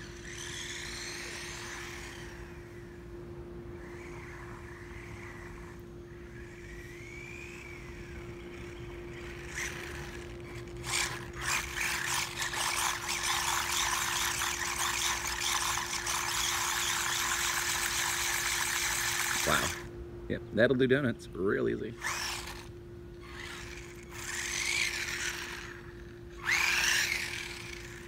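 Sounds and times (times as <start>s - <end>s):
toy car motor whine: 0.0s - 3.1s, 3.7s - 19.9s, 22.0s - 28.0s.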